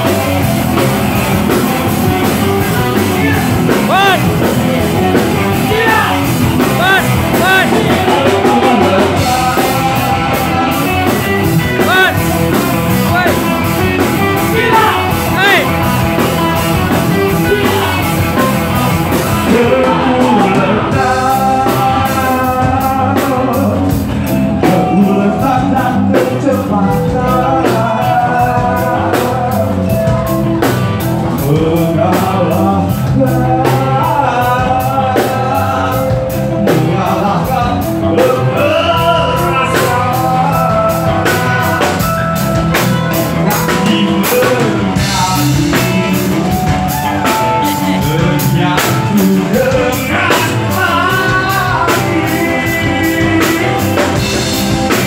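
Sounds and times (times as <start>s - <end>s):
person singing: 0.0s - 30.6s, 31.2s - 55.0s
drums: 0.0s - 55.0s
electric guitar: 0.0s - 55.0s.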